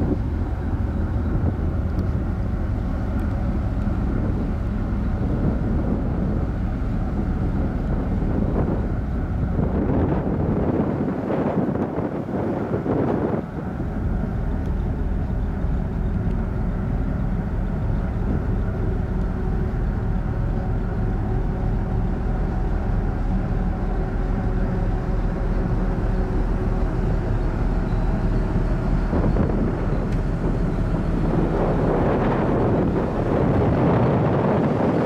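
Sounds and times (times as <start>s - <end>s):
faint steady hums: 0.0s - 35.0s
ship engines rumbling: 0.0s - 35.0s.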